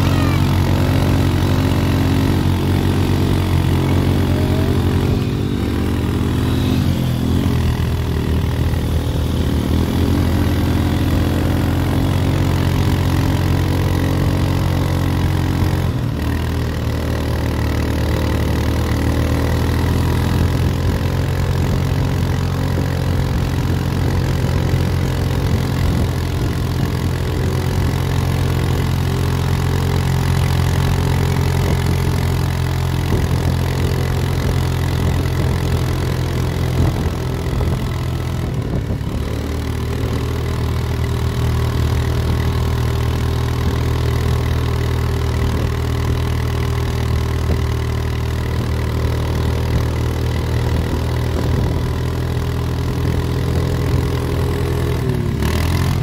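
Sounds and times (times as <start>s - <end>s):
low engine hum: 0.0s - 56.0s
quad bike engine revving: 0.0s - 56.0s.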